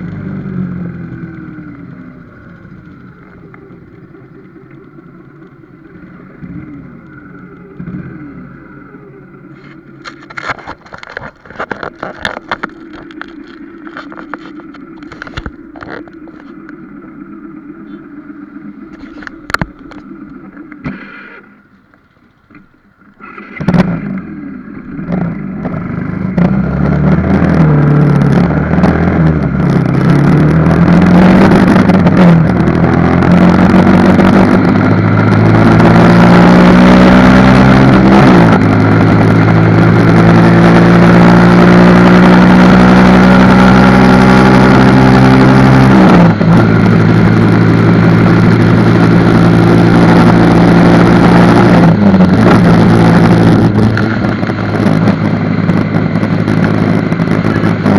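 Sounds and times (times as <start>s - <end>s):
sped-up motorcycle engine: 0.0s - 57.9s
wind and road noise: 0.0s - 57.9s.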